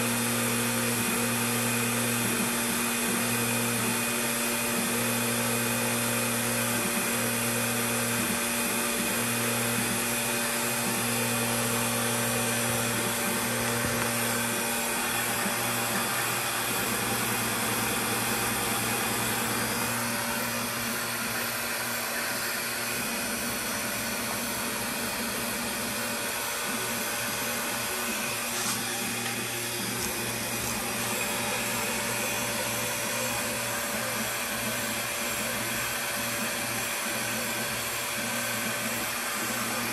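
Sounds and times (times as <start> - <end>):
humming stepper motor tones: 0.0 - 39.9
milling machine motor whir: 0.0 - 39.9.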